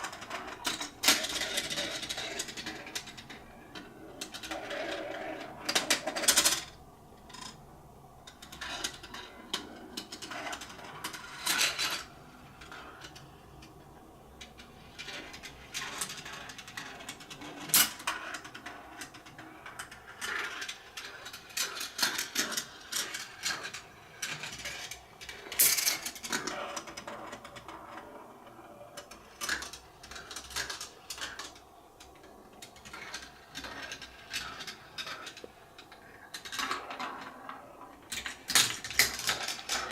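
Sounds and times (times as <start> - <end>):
marbles clicking on plastic track: 0.0 - 6.7, 8.3 - 13.7, 14.5 - 39.9
marbles rolling rattle: 0.0 - 6.7, 14.5 - 39.9.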